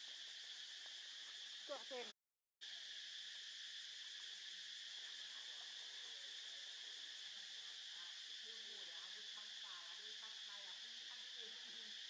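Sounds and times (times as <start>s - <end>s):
insects droning in chorus: 0.0s - 12.0s.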